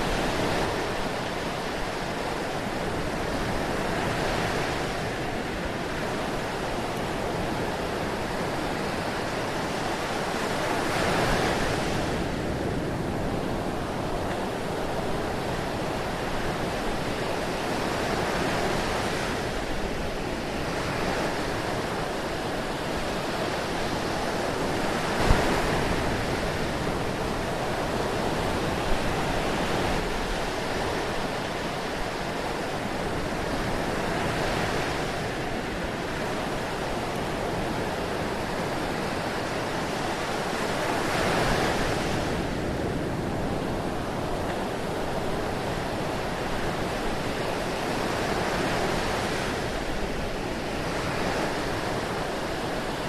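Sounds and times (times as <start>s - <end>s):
ocean surf washing: 0.0s - 53.0s.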